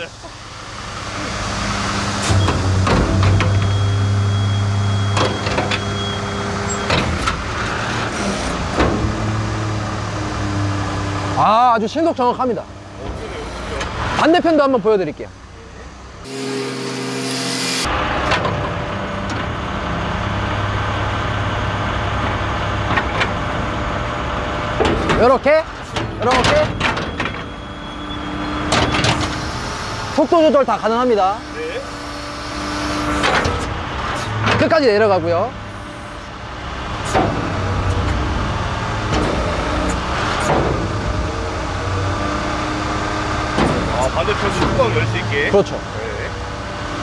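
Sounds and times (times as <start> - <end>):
truck engine drone: 0.0 - 47.0.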